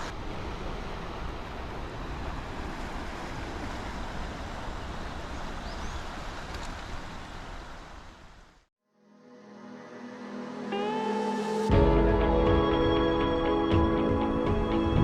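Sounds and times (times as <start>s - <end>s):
wind and surf rushing: 0.0s - 8.2s, 10.0s - 15.0s.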